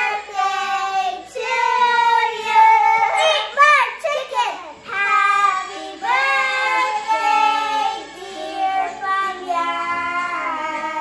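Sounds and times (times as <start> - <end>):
children singing together: 0.0 - 3.6, 4.7 - 11.0.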